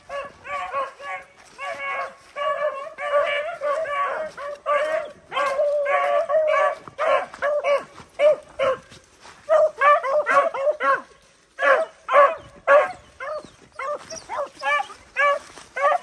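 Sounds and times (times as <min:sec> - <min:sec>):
dogs baying: 0:00.0 - 0:16.0.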